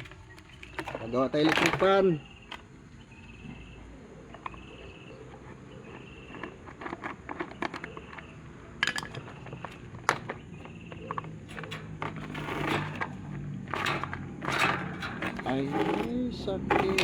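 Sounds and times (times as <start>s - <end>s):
clicks and clinks of fan parts: 0.0s - 3.6s, 4.3s - 17.0s.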